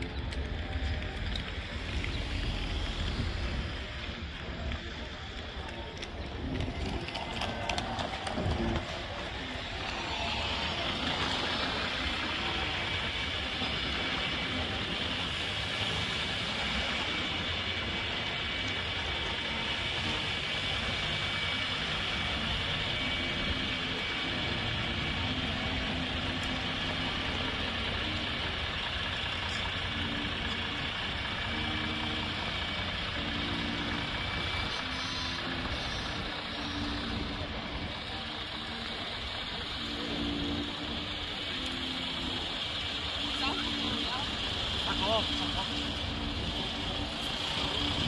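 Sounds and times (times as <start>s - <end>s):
city background noise: 0.0s - 48.0s
vehicle engine idling: 0.0s - 48.0s.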